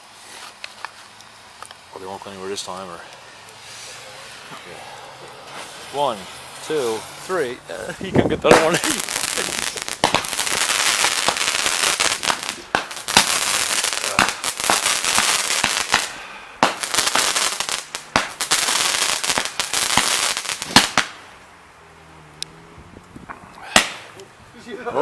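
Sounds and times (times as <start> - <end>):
fireworks crackling and popping: 0.0 - 21.5, 23.0 - 24.3.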